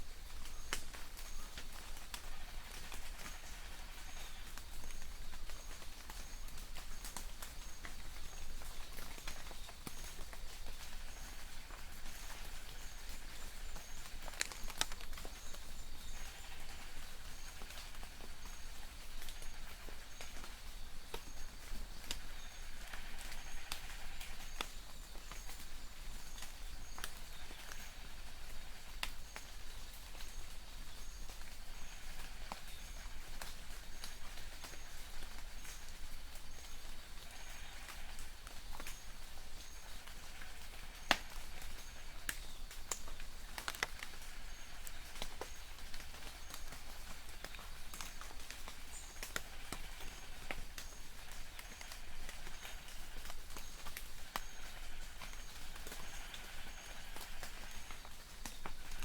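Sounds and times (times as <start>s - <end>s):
light rain hiss: 0.0s - 59.0s
distant bird chirps: 0.3s - 59.0s.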